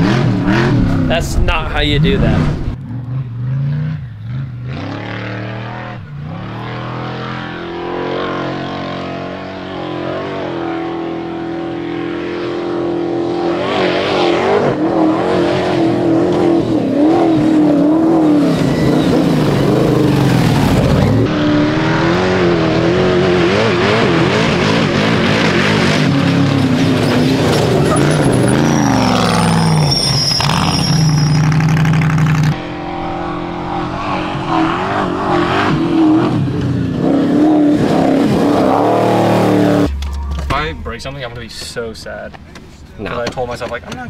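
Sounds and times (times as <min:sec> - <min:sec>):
truck engine revving: 0:00.0 - 0:41.3.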